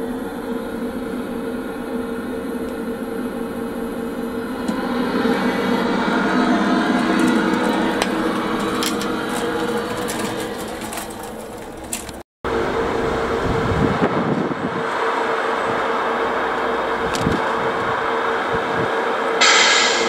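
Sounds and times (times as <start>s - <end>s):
constant hum: 0.0s - 20.0s
electronic truck engine idle: 0.0s - 20.0s.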